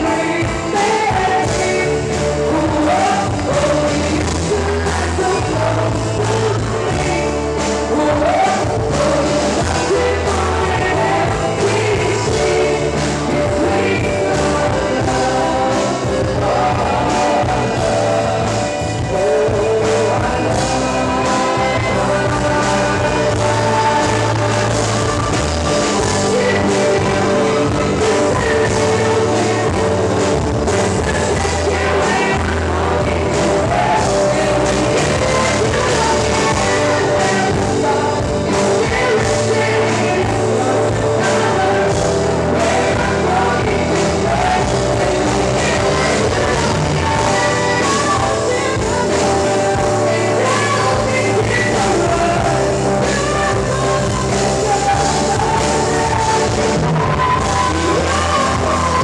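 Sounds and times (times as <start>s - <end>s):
live band playing: 0.0s - 59.0s
woman singing lead: 0.0s - 59.0s.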